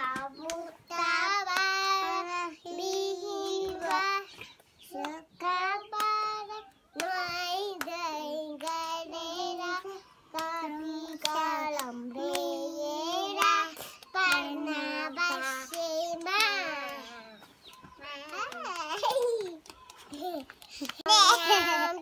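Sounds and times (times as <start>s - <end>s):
small child singing: 0.0s - 20.4s, 21.0s - 22.0s.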